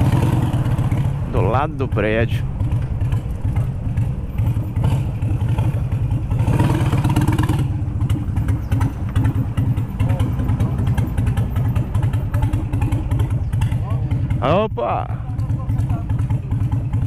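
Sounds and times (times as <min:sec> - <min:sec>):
motorcycle engine running low: 0:00.0 - 0:17.0.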